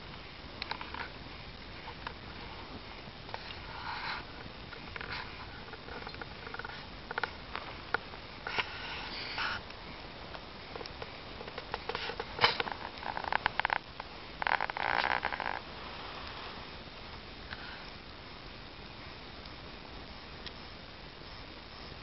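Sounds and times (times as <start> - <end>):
log bonfire crackling: 0.0 - 22.0
low background hiss: 0.0 - 22.0.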